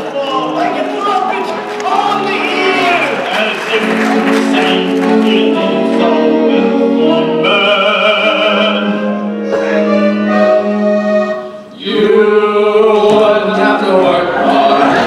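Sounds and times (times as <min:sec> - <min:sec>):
men singing long held notes: 0:00.0 - 0:15.0
musical accompaniment: 0:00.0 - 0:15.0.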